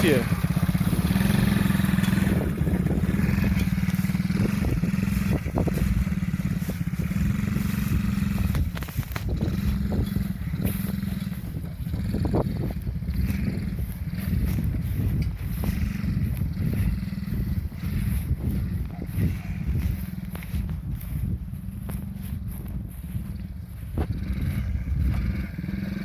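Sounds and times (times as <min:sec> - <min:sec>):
small quad bike engine running: 0:00.0 - 0:26.0.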